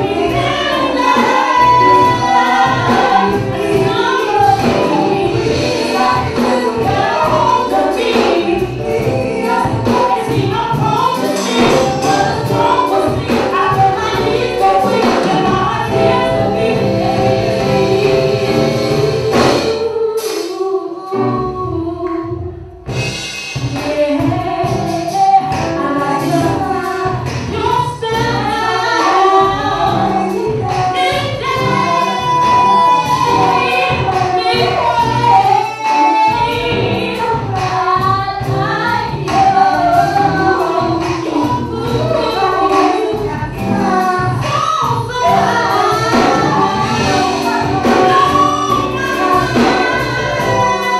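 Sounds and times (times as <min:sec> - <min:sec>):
women singing backing vocals: 0:00.0 - 0:22.8, 0:23.7 - 0:50.9
woman singing lead: 0:00.0 - 0:22.9, 0:23.6 - 0:50.9
live band playing: 0:00.0 - 0:50.9.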